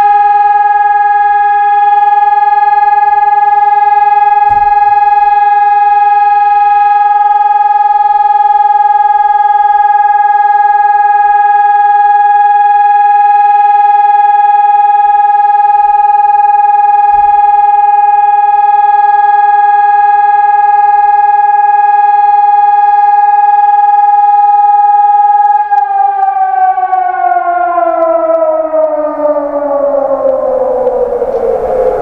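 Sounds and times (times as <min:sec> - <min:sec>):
siren steady tone: 0:00.0 - 0:32.0.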